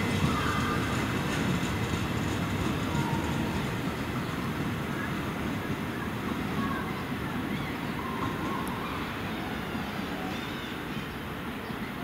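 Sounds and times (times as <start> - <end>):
train wheels rumbling on rails: 0.0 - 11.6.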